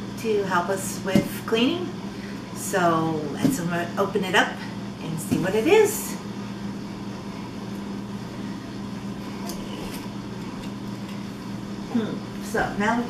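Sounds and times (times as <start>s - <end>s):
low electrical appliance hum: 0.0s - 13.0s.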